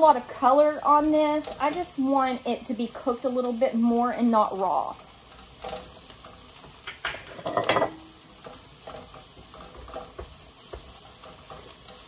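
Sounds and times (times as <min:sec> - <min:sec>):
onions sizzling in oil: 0:00.0 - 0:12.0
wooden spoon scraping a pan: 0:00.0 - 0:12.0.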